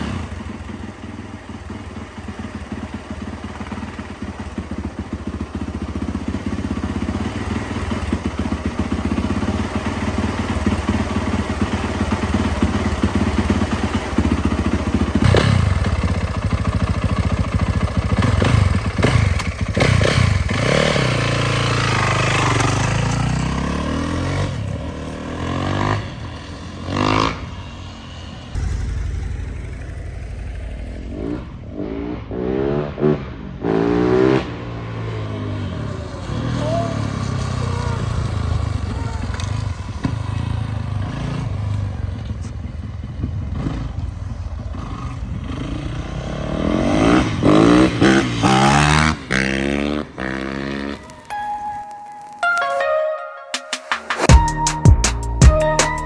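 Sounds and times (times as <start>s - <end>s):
motorcycle engine idling and revving: 0.0s - 51.8s.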